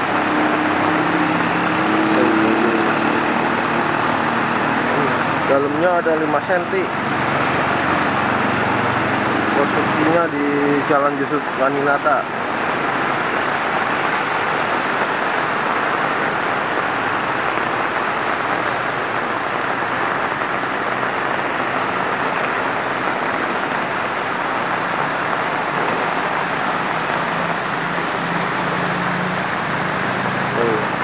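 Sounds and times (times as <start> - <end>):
heavy rain hissing: 0.0 - 31.0.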